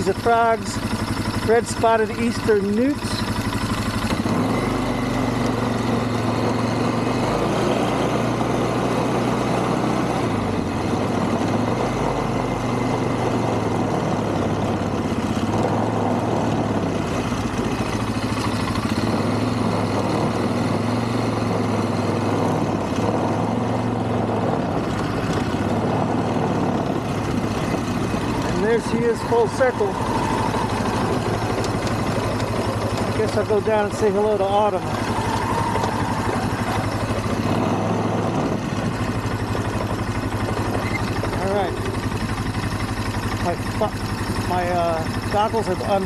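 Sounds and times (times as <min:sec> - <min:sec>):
quad bike engine running: 0:00.0 - 0:46.0.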